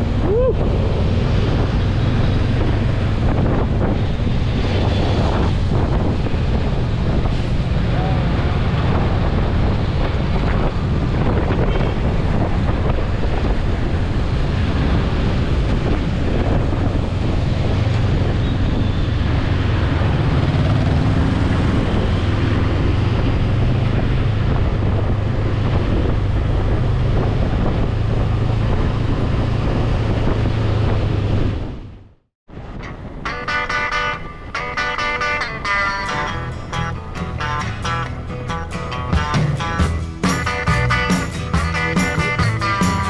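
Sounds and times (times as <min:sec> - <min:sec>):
motorbike engine hum: 0:00.0 - 0:43.0
wind buffeting microphone: 0:00.0 - 0:43.0.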